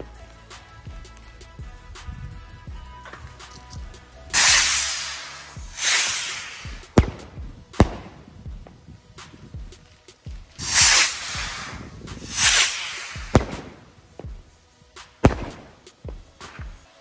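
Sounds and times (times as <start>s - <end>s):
firework bangs and pops: 3.0s - 16.9s
firework rockets hissing: 3.1s - 17.0s.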